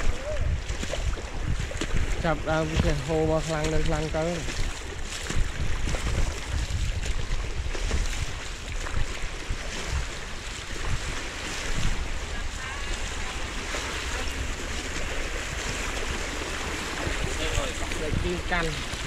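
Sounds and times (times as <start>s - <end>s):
floodwater rushing: 0.0s - 19.0s
wind on microphone: 0.0s - 19.0s.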